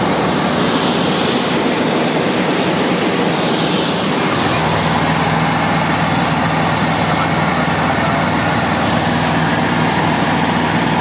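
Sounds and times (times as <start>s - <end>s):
airplane engine droning: 0.0s - 11.0s
loud airflow noise: 0.0s - 11.0s.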